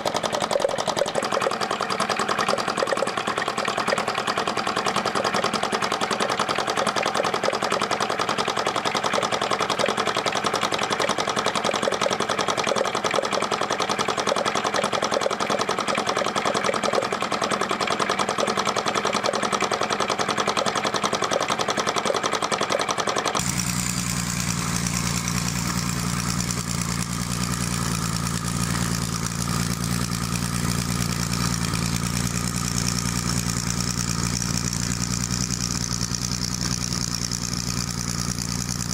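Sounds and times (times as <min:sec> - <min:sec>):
model engine clattering: 0:00.0 - 0:38.9
model engine idling hum: 0:00.0 - 0:38.9.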